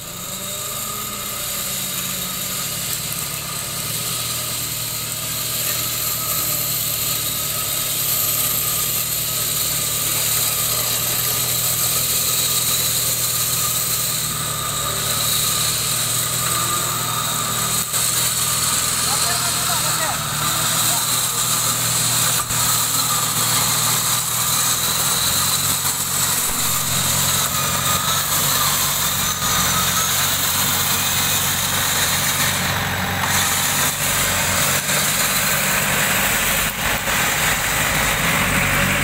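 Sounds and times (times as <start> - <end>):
jeep engine running: 0.0 - 39.0
winch whine: 5.8 - 39.0.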